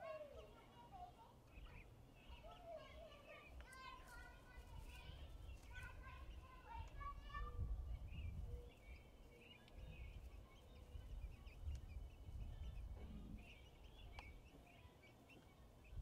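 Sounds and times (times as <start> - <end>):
chicks peeping: 0.3 - 16.0.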